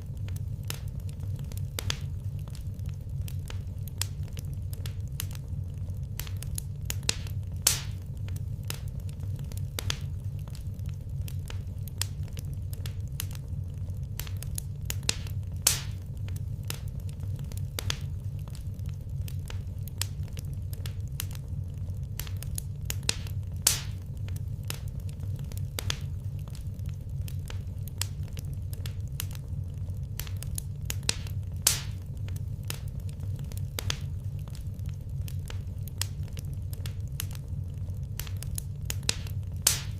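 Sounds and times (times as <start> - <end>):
loud pops of fire: 0.0 - 39.9
low rumble: 0.0 - 39.9
wood fire crackling: 0.0 - 39.9.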